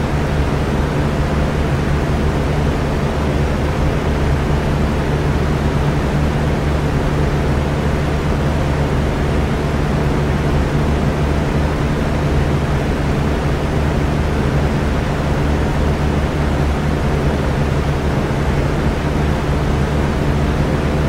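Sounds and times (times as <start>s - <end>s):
electric fan running: 0.0s - 21.0s.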